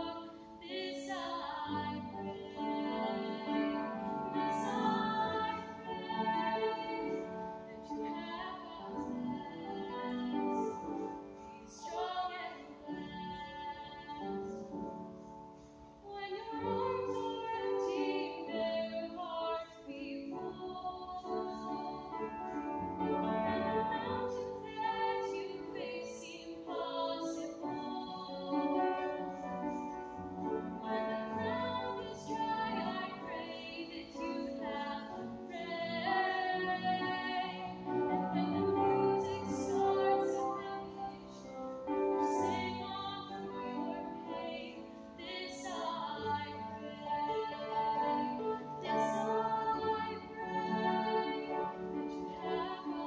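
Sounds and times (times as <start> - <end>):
woman singing: 0.0 - 15.0, 16.0 - 29.9, 30.6 - 53.0.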